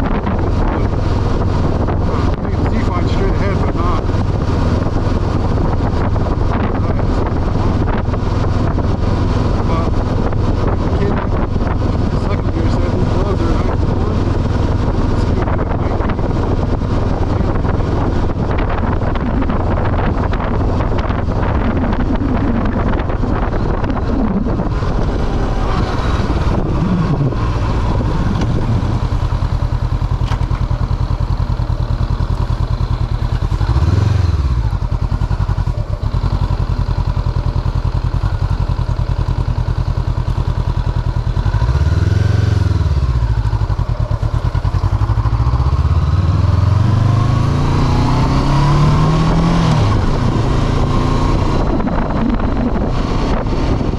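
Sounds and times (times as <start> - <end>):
wind rushing over microphone: 0.0 - 38.7, 40.8 - 53.9
motorcycle engine revving: 0.0 - 53.9.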